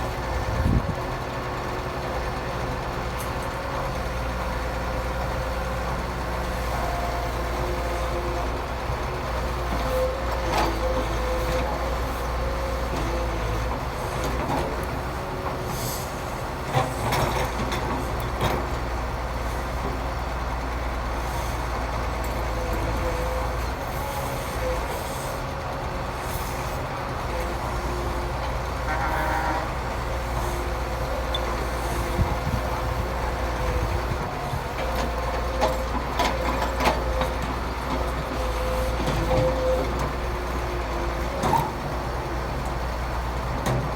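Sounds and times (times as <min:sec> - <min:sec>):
diesel engines droning: 0:00.0 - 0:43.9.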